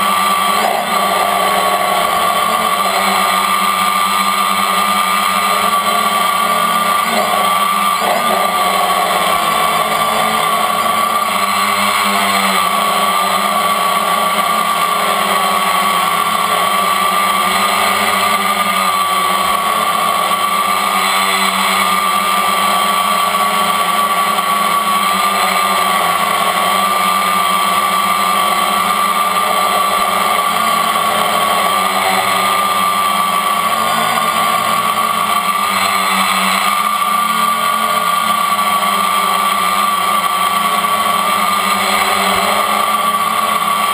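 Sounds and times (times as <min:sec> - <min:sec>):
drone motors whining: 0:00.0 - 0:43.9.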